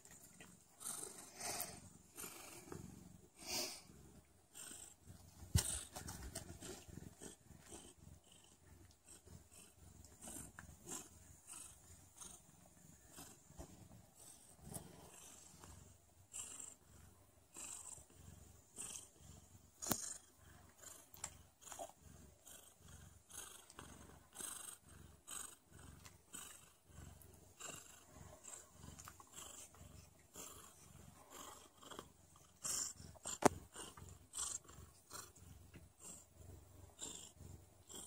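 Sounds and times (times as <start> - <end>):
cat purring softly: 0.0 - 38.0.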